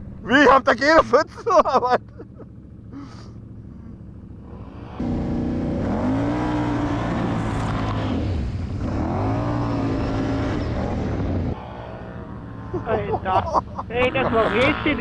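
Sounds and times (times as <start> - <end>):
quad engine revving: 2.9 - 15.0.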